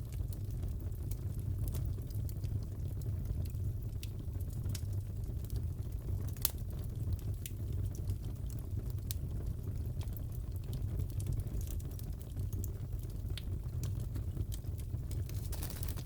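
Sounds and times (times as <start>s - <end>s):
burning logs rumbling: 0.0s - 16.0s
fire pops and snaps: 0.0s - 16.0s.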